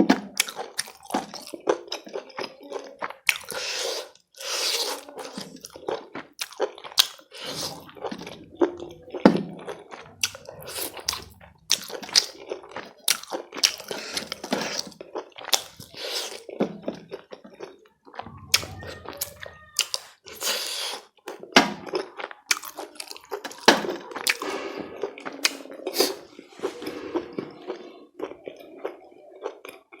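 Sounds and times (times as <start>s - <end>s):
person chewing with mouth sounds: 0.0s - 30.0s.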